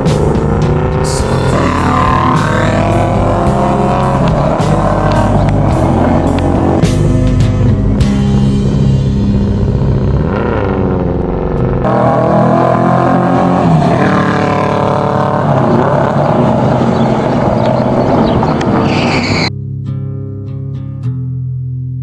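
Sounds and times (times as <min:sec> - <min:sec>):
motorcycle engine revving high: 0:00.0 - 0:19.5.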